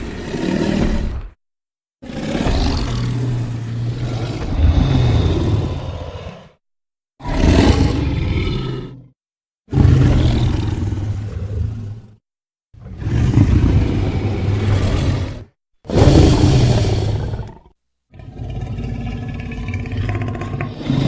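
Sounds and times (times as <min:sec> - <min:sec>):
deep growling dinosaur roars: 0:00.0 - 0:01.4, 0:02.0 - 0:06.6, 0:07.2 - 0:12.2, 0:12.8 - 0:21.0.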